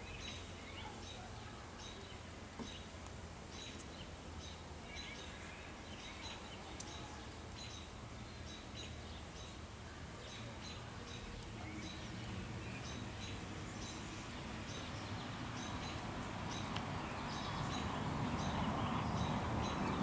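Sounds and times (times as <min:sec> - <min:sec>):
bird chirping: 0:00.0 - 0:09.6, 0:10.2 - 0:20.0
outdoor hiss: 0:00.0 - 0:20.0.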